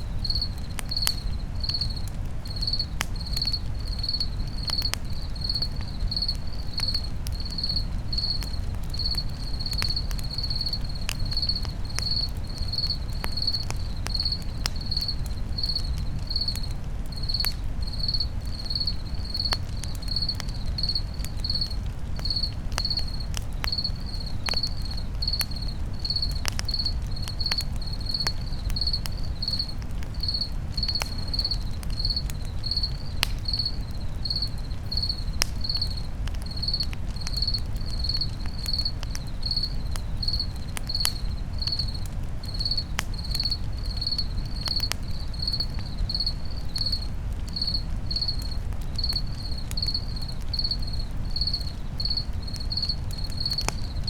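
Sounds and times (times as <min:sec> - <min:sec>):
campfire crackling and popping: 0:00.0 - 0:54.0
cricket chirping: 0:00.0 - 0:54.0.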